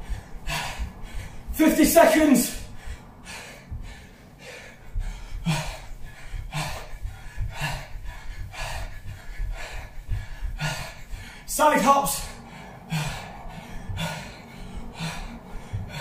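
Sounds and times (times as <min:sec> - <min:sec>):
feet jogging on carpet: 0:00.0 - 0:16.0
heavy breathing: 0:00.0 - 0:16.0.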